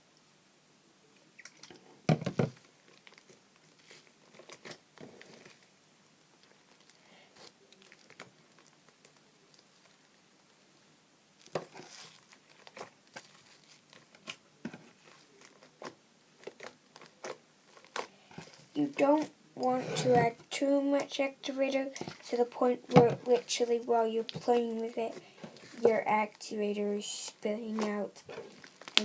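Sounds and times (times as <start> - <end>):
slime squishing and crackling: 2.8 - 5.6, 6.4 - 10.1, 11.4 - 26.4, 27.3 - 29.0.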